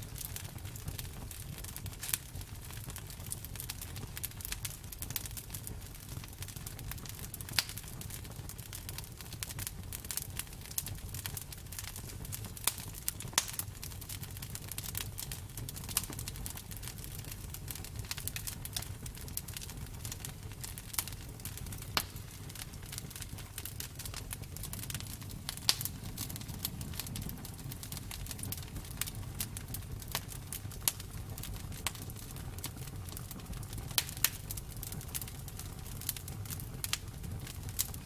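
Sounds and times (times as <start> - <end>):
bonfire crackling and popping: 0.0 - 38.0.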